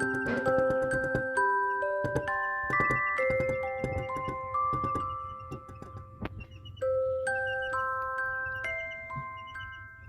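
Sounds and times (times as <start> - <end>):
chicks cheeping: 0.0 - 10.0
chime notes music: 0.0 - 10.0.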